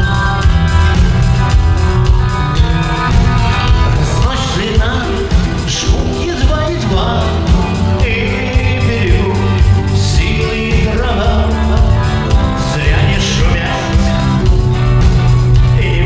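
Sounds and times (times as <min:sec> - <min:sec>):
person singing: 0:00.0 - 0:16.0
rock band playing: 0:00.0 - 0:16.0.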